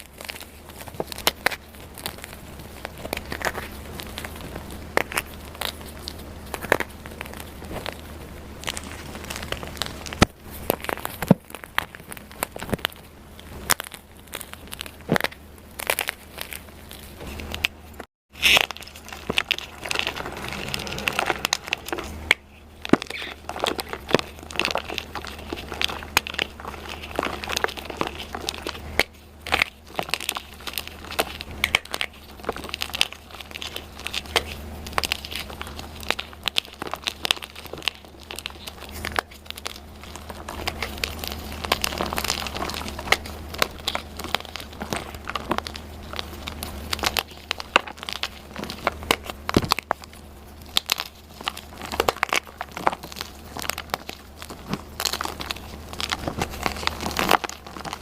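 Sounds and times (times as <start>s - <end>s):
chalk crunching and crackling: 0.0s - 58.0s.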